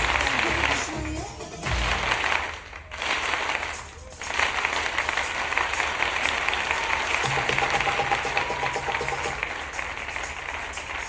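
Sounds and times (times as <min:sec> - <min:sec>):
audience applauding: 0:00.0 - 0:11.0
music: 0:00.0 - 0:11.0.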